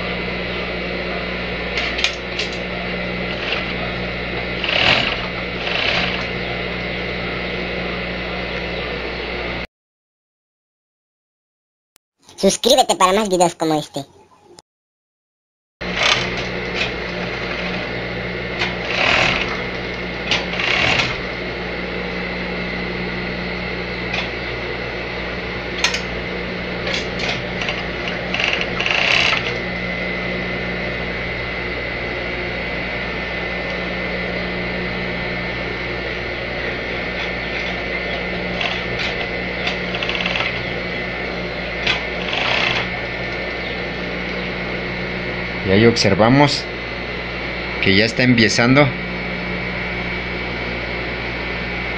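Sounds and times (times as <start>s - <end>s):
overlock machine running: 0.0s - 9.7s, 15.8s - 51.9s.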